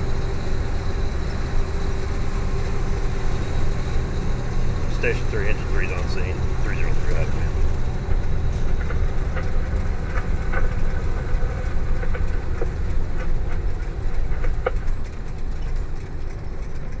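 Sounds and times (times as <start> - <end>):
engine and road rumble: 0.0 - 17.0
small rattles and clicks: 2.1 - 17.0.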